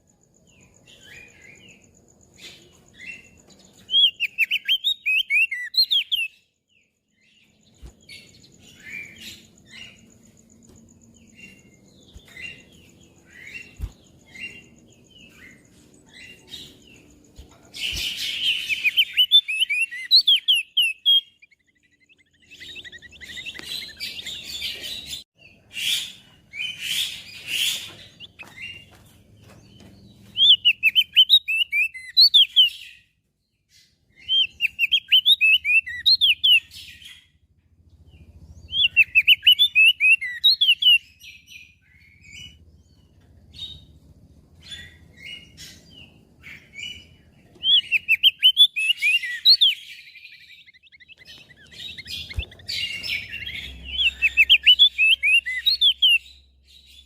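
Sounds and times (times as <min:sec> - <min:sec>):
bird chirps and trills: 0:00.0 - 0:37.4, 0:38.0 - 0:57.0.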